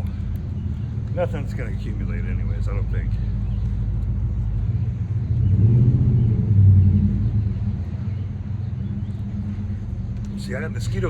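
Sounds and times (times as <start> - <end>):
steady low hum: 0.0 - 11.0
vehicle engine passing by: 1.2 - 11.0.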